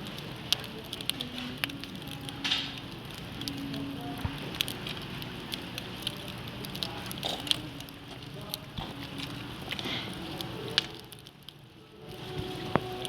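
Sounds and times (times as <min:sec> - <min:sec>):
firewood crackling and popping: 0:00.0 - 0:13.0
low fire hiss: 0:00.0 - 0:13.0.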